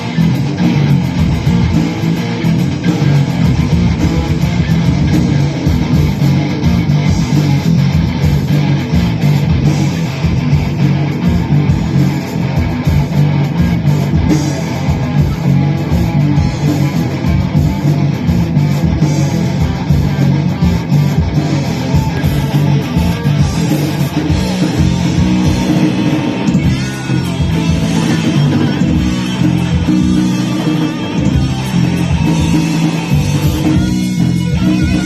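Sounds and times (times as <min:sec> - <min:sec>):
electric guitar: 0:00.0 - 0:35.0
rock band playing: 0:00.0 - 0:35.0.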